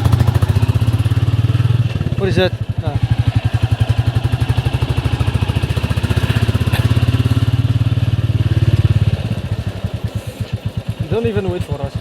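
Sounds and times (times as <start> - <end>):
single-cylinder motorcycle engine running: 0.0 - 12.0.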